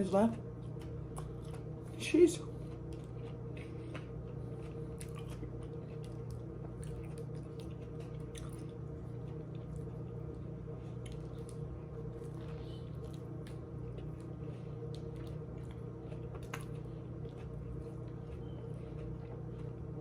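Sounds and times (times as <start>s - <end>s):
steady low hum: 0.0s - 20.0s
wet chewing: 0.6s - 20.0s.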